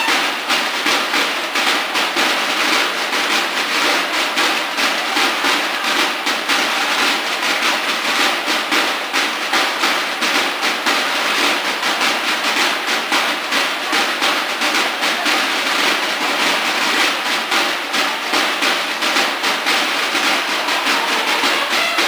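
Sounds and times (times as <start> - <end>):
snare drums march cadence: 0.0 - 22.0.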